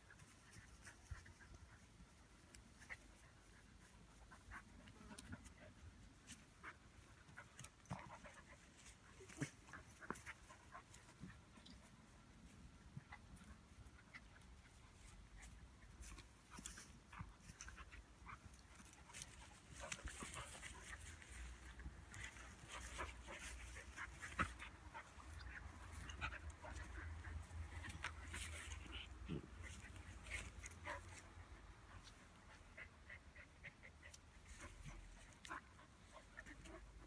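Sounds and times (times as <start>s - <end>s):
dogs scuffling and snuffling: 0.1s - 32.4s.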